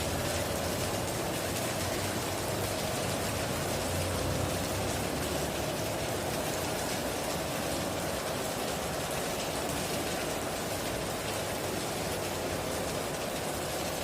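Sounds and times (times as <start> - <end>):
heavy rain on a tin roof: 0.0 - 14.0.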